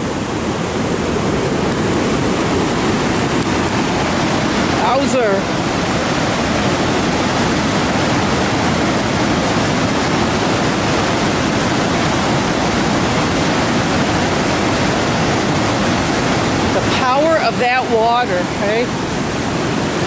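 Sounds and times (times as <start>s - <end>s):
river rushing over rock ledges: 0.0s - 20.0s.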